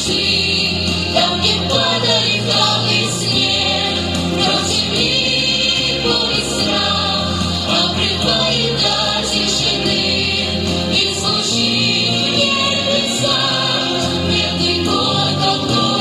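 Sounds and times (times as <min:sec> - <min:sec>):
vocal group singing in harmony: 0:00.0 - 0:16.0.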